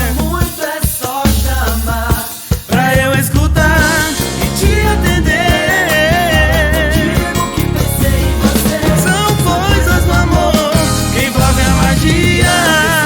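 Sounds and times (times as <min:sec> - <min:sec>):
instrumental music with beat: 0:00.0 - 0:13.0.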